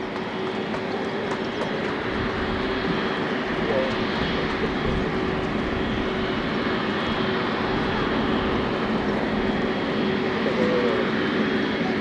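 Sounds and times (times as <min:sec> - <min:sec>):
jet turbofans running: 0:00.0 - 0:12.0.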